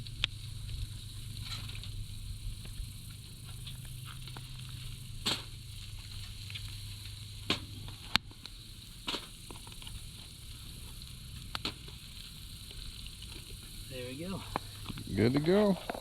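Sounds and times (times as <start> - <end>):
fire pops and crackles: 0.0 - 16.0
meat sizzling over fire: 0.0 - 16.0.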